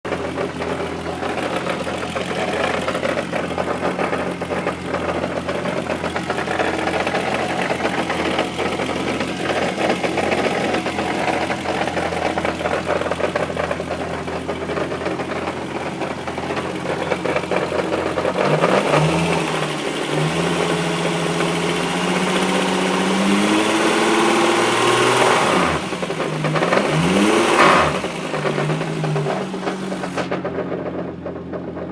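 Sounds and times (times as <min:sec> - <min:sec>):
car engine idling and revving: 0:00.0 - 0:31.9.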